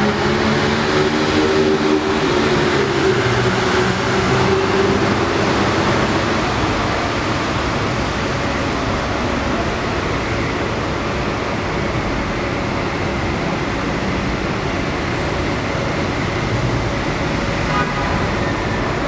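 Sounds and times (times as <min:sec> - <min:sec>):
distant monorail train running: 0:00.0 - 0:19.0.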